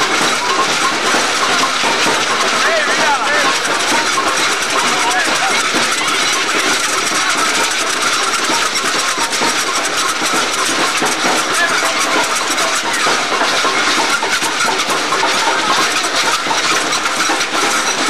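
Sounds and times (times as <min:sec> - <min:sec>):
dense crowd din: 0:00.0 - 0:18.0.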